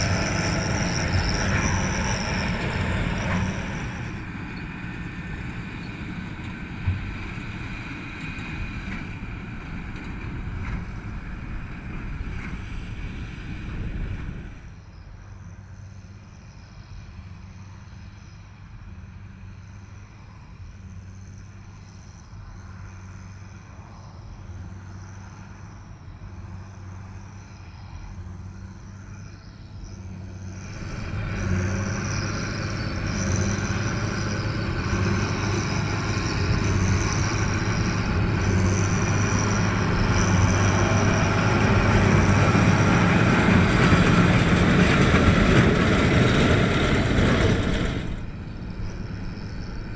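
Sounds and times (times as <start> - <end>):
tractor engine running under load: 0.0 - 14.8, 24.5 - 49.9.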